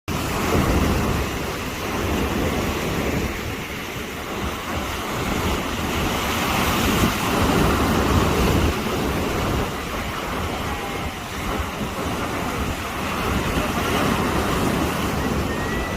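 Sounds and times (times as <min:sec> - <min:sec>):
sea waves washing on shore: 0:00.1 - 0:15.9
wind buffeting microphone: 0:00.1 - 0:15.9.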